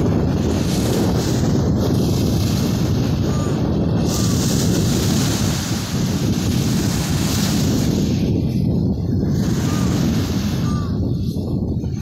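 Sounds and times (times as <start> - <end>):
small waves breaking on sand: 0.0 - 12.0
wind buffeting microphone: 0.0 - 12.0.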